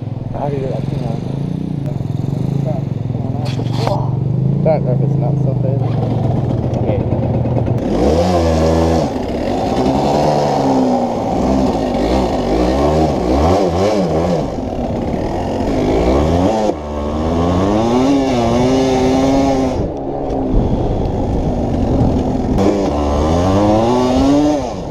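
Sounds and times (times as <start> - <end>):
pit bike engine revving: 0.0 - 24.9.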